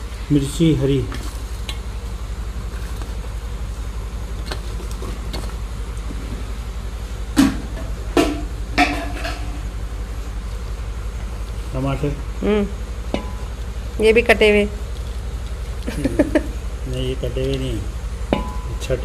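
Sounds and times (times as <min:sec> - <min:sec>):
low hum with fast flutter: 0:00.0 - 0:19.0.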